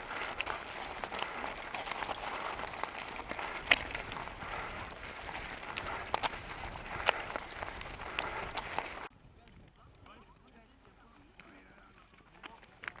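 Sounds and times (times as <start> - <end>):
stones clicking: 0.0 - 9.1, 11.4 - 13.0
tyre rolling over stony track: 0.0 - 9.1, 11.1 - 13.0.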